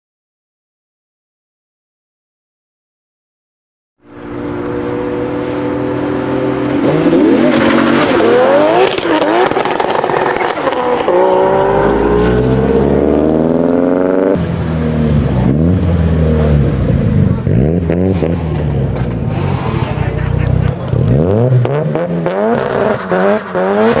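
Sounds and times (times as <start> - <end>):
car engine revving: 4.0 - 24.0.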